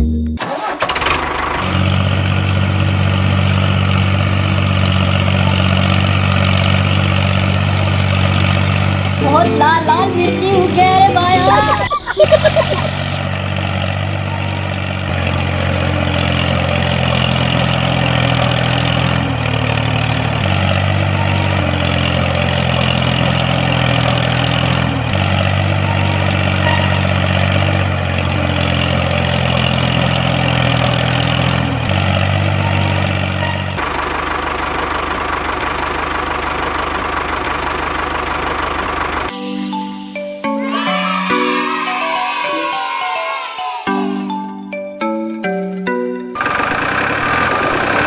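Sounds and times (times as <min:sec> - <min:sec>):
tractor engine running: 0:00.0 - 0:39.8, 0:44.3 - 0:48.0.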